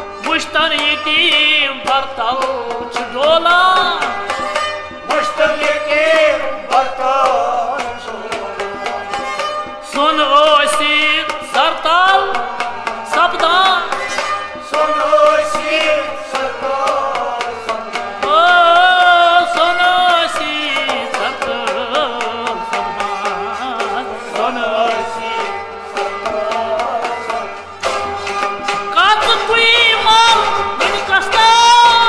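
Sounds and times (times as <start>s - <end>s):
man singing: 0.0s - 4.4s, 5.0s - 9.2s, 9.8s - 14.0s, 14.6s - 27.6s, 28.6s - 32.0s
bowed sarangi: 0.0s - 32.0s
clay-pot drum beat: 0.0s - 32.0s
harmonium: 0.0s - 32.0s
plucked rabab: 0.0s - 32.0s.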